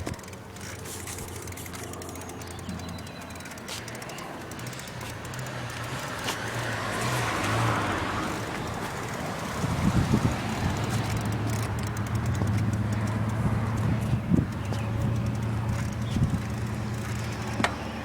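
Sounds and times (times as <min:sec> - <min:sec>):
low bumps: 0:00.0 - 0:18.0
vehicle passing by: 0:00.0 - 0:18.0.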